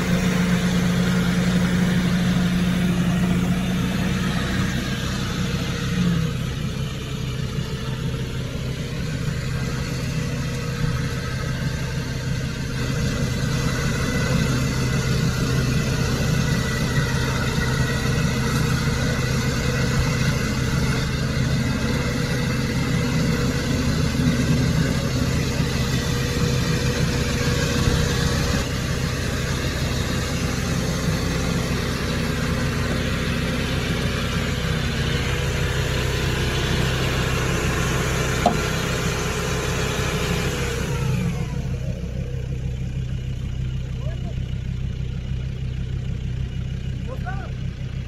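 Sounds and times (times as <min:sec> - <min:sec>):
truck engine revving: 0:00.0 - 0:48.0.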